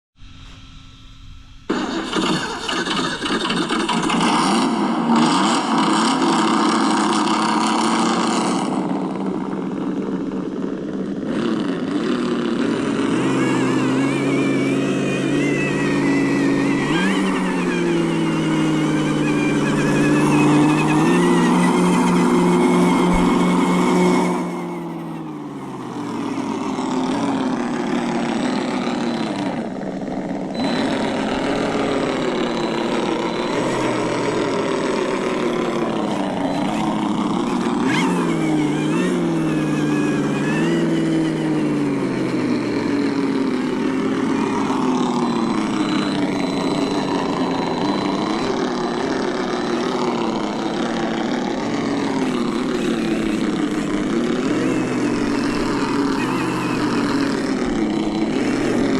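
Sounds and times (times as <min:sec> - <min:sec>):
simulated engine sound: 0:00.2 - 0:58.9.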